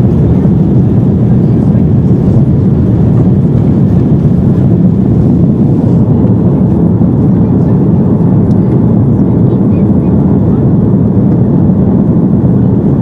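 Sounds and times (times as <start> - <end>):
jet engine and airflow noise: 0.0 - 13.0.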